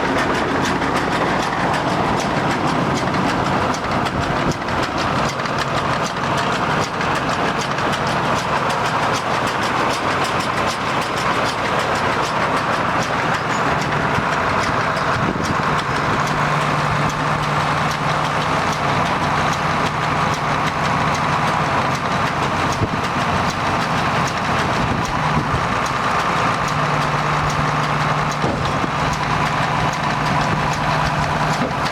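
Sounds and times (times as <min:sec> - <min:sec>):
baler mechanical clatter: 0:00.0 - 0:31.9
low tractor engine hum: 0:00.0 - 0:31.9.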